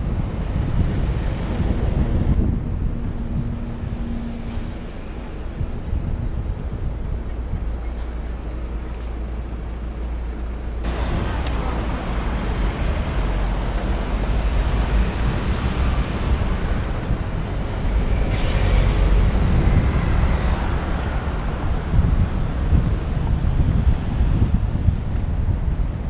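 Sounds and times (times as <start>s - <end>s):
wind buffeting microphone: 0.0s - 9.8s, 10.8s - 26.0s
city road traffic: 0.0s - 26.0s.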